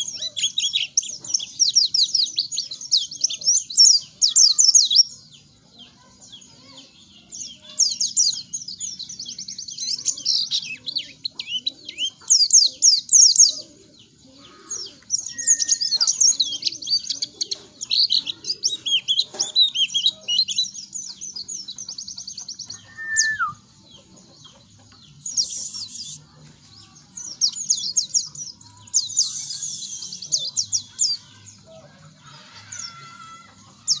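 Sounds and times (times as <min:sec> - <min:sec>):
bird twittering song: 0:00.0 - 0:34.0.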